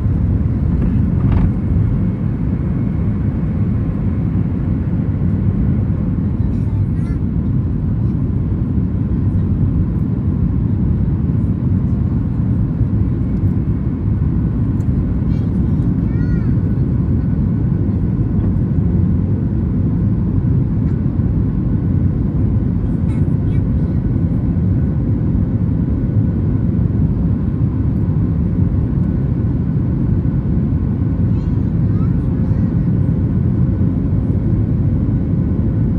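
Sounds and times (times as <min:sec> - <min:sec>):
airplane cabin engine roar: 0:00.0 - 0:35.9.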